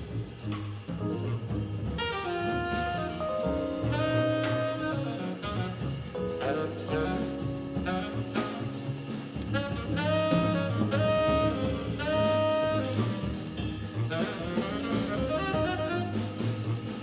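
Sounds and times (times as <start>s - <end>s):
drum kit with cymbals: 0.0s - 17.0s
piano: 0.0s - 17.0s
walking double bass: 0.0s - 17.0s
saxophone melody: 2.0s - 17.0s.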